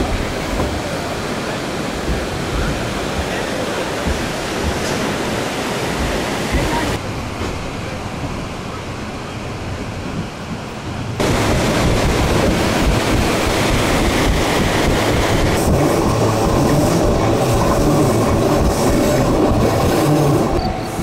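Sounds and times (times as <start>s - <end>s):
train passing alongside: 0.0s - 21.0s
wind and rail noise: 0.0s - 21.0s.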